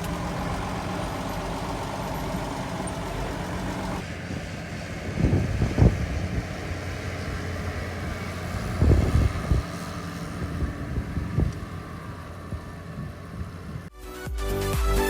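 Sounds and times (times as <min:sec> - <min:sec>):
tractor engine running: 0:00.0 - 0:13.9
wind buffeting microphone: 0:00.0 - 0:13.9.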